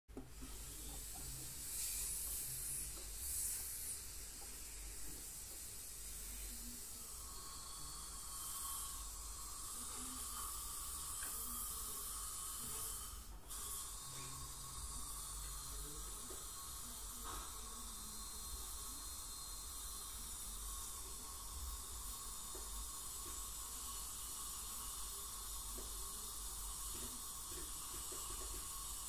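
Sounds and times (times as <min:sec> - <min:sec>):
dental scaler and suction hissing: 0:00.1 - 0:29.0.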